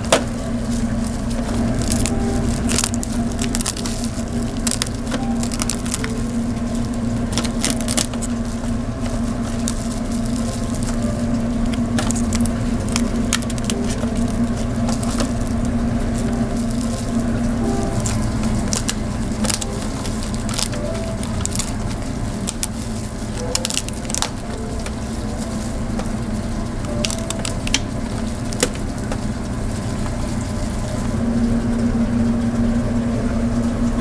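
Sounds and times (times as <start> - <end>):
steady low hum: 0.0 - 34.0
sharp clicks and cracks: 1.0 - 30.2.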